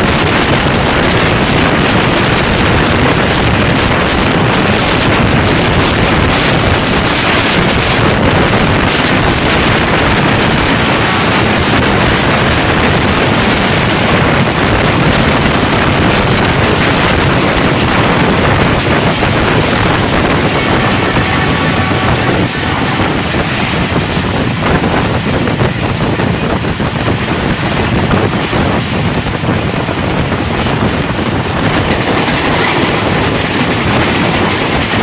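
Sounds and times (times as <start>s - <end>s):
moving passenger train: 0.0s - 35.0s
wind on microphone: 0.0s - 35.0s.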